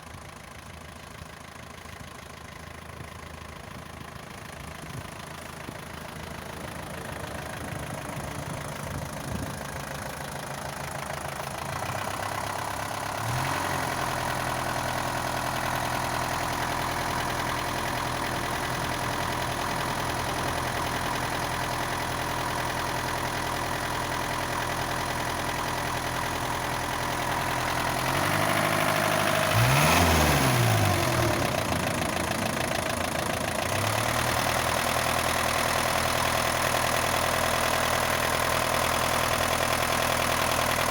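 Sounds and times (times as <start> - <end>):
diesel truck engine idling and revving: 0.0 - 40.9.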